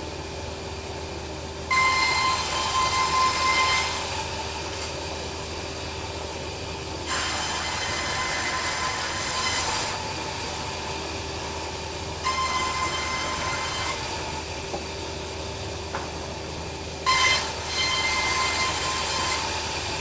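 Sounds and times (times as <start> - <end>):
band sawmill running: 0.0 - 20.0.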